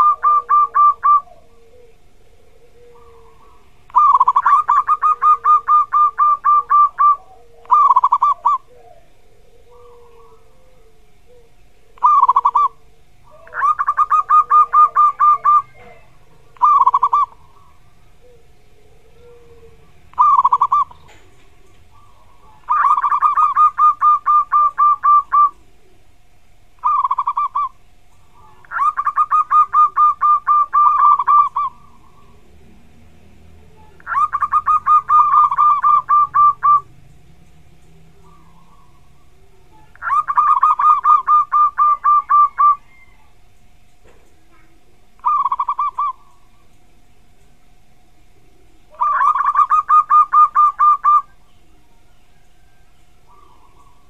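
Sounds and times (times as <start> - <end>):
dove singing rolling kuk notes: 0.0 - 54.0.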